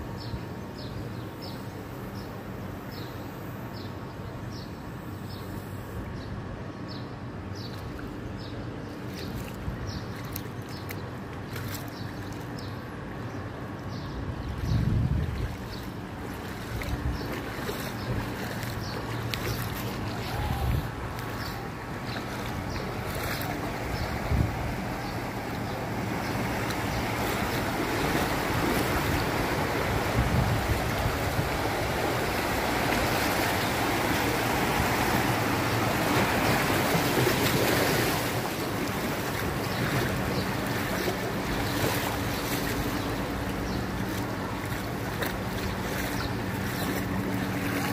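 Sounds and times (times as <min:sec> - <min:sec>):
floodwater rushing and splashing: 0:07.6 - 0:47.9.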